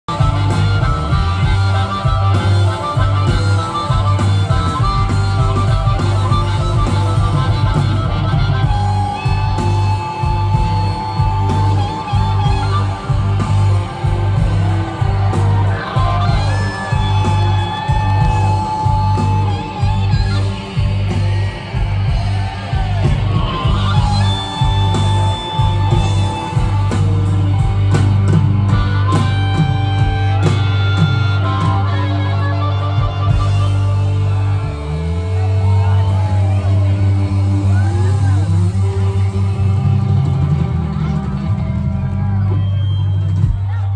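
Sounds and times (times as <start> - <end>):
electric guitar: 0.1 - 43.9
live blues band: 0.1 - 43.9.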